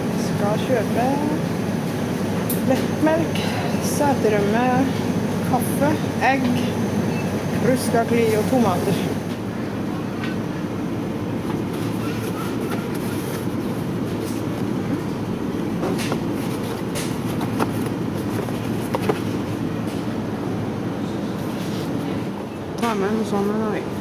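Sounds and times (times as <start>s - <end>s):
supermarket hum and rumble: 0.0s - 24.0s.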